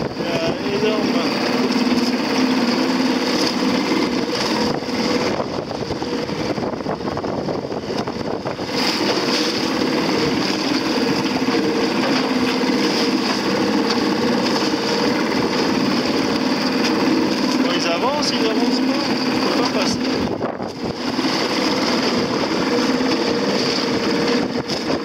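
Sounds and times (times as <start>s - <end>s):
high engine whine: 0.0s - 25.0s
motorboat engine hum: 0.0s - 25.0s.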